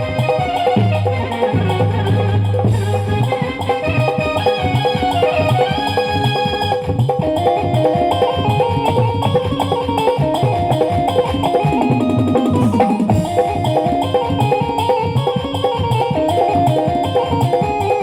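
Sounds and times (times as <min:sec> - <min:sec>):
drum and percussion rhythm: 0:00.0 - 0:18.0
keyboard melody: 0:00.0 - 0:18.0.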